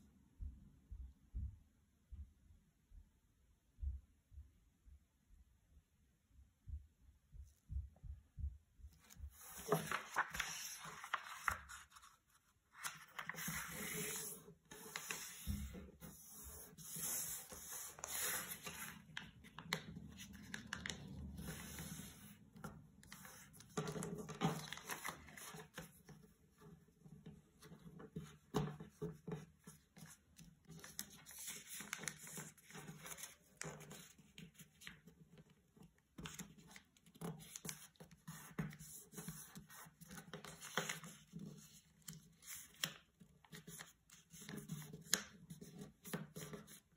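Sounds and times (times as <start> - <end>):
paper rustling and creasing: 9.0 - 46.9.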